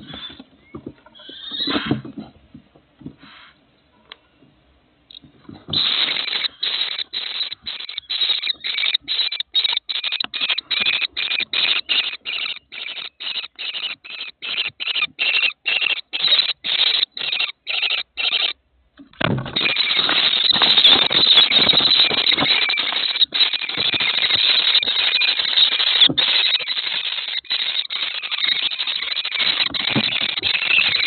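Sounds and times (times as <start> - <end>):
birds harsh raspy calls: 0.0 - 2.0, 5.1 - 18.6, 19.4 - 31.0.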